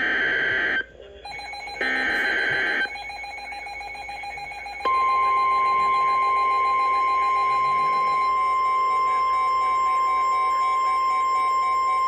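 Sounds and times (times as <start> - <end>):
loud steady warning alarm tone: 0.0 - 12.0.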